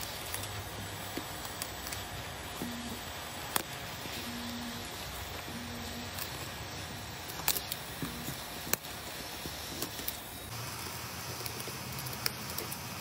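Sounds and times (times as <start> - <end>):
hot-air nozzle hissing: 0.0 - 13.0.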